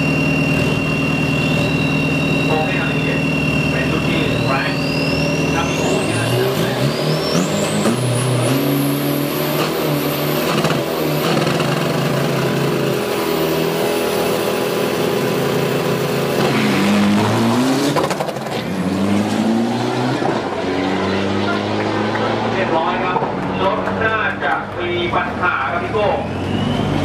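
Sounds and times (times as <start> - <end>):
high turbo whine: 0.0 - 27.0
pickup engines revving high: 0.0 - 27.0
truck accelerating away: 0.0 - 27.0.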